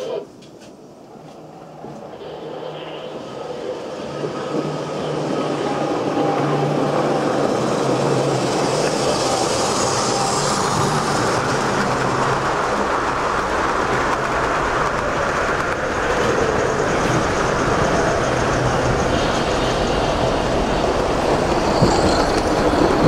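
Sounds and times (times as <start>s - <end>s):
model trains rumbling and clattering: 2.7s - 23.0s.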